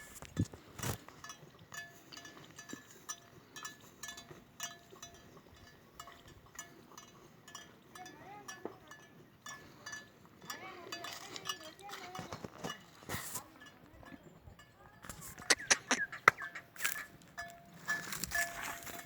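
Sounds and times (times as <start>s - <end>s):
cow bell clinking: 0.0s - 19.0s.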